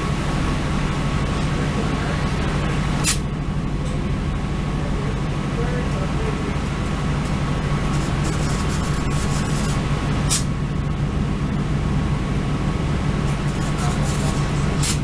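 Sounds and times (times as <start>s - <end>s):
rail running noise: 0.0s - 15.0s
train engine drone: 0.0s - 15.0s.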